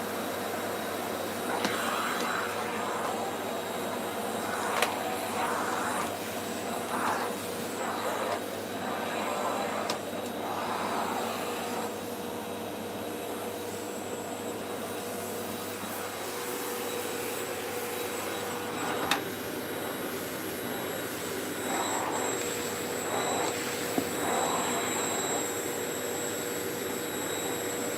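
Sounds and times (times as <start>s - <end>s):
vacuum cleaner whining: 0.0s - 27.9s.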